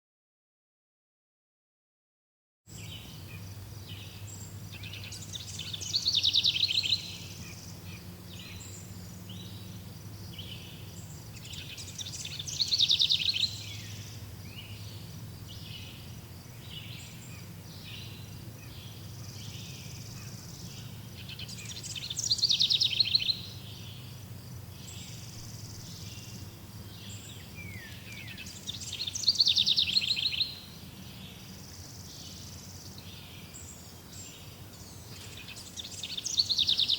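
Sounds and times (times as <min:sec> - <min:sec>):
bird trilling song: 0:02.7 - 0:36.9
low steady hum: 0:02.7 - 0:36.9
soft bird chirps: 0:02.7 - 0:36.9.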